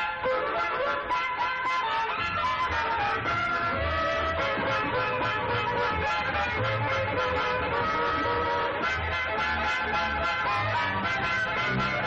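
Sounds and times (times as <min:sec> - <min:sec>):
swing band music: 0:00.0 - 0:12.0.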